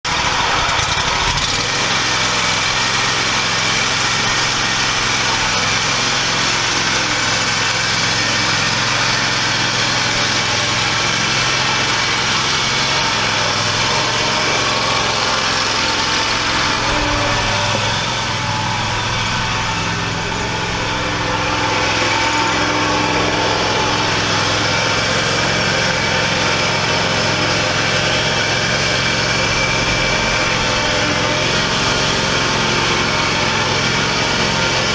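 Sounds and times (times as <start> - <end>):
mower engine running: 0.0 - 34.9.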